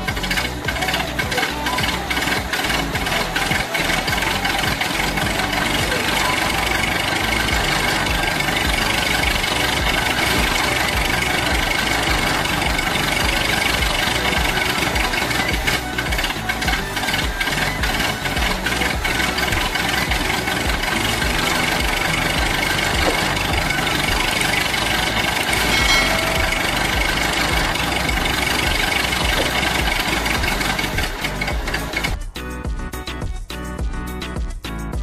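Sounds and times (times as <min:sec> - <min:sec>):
engine running with knocking rattle: 0:00.0 - 0:35.0.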